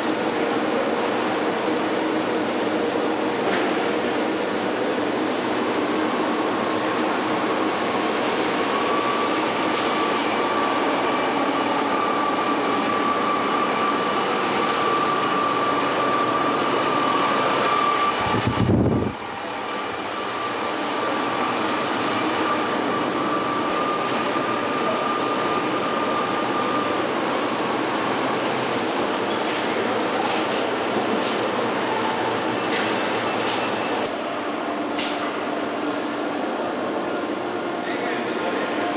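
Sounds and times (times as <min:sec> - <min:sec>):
factory machine whine: 0:00.0 - 0:38.9.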